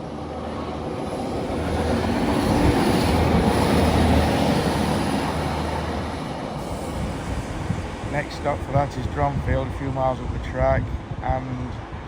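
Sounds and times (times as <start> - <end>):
diesel train passing: 0.0 - 12.0.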